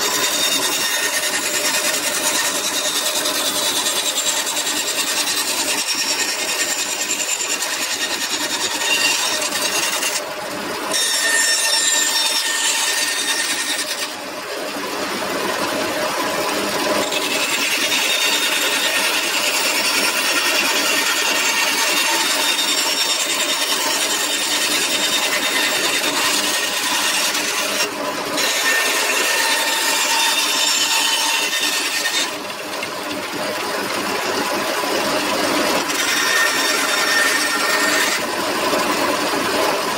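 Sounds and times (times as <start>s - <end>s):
band saw blade rasping through wood: 0.0s - 14.4s, 15.3s - 39.3s
band saw motor whine: 0.0s - 39.9s.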